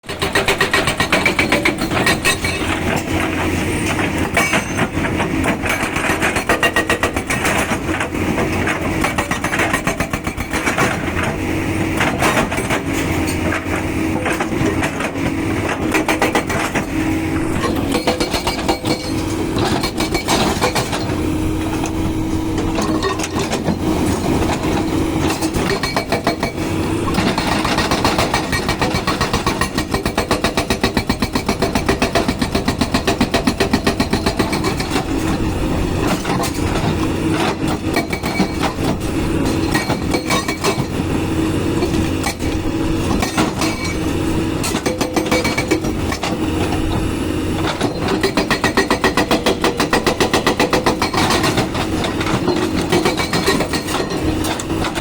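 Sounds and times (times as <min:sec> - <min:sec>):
hydraulic breaker hammering: 0:00.1 - 0:35.4, 0:41.7 - 0:55.0
diesel engine running under load: 0:00.1 - 0:55.0.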